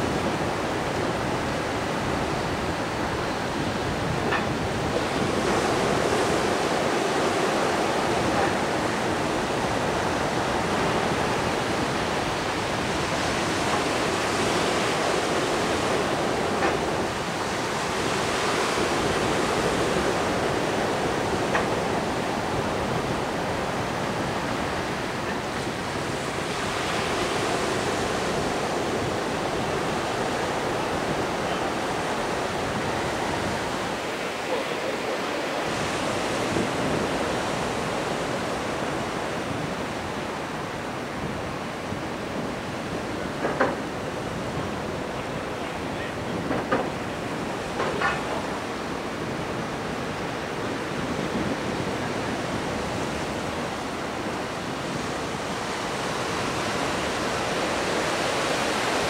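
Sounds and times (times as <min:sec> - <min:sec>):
surf breaking on shore: 0:00.0 - 0:59.0.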